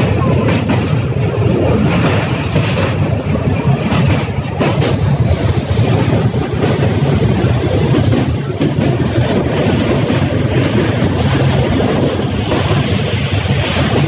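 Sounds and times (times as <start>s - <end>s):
train rumbling over steel bridge: 0.0s - 14.0s.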